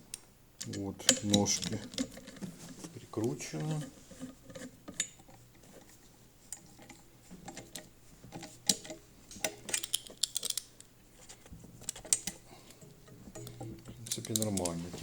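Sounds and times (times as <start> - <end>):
parts clicking and clattering: 0.0 - 15.0.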